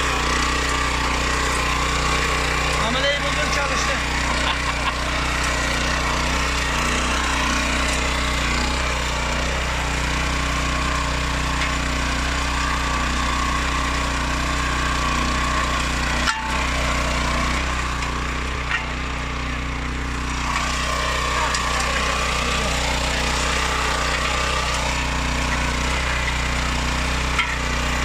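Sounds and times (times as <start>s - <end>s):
motor hoe engine running: 0.0s - 28.0s.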